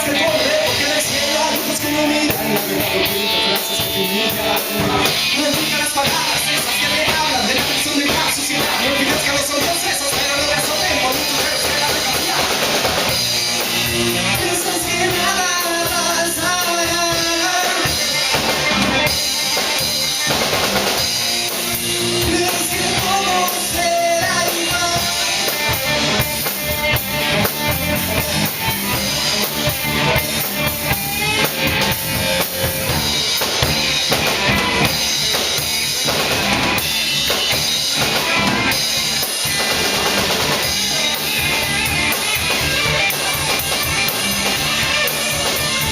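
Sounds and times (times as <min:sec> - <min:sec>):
live band playing hip hop: 0:00.0 - 0:45.9.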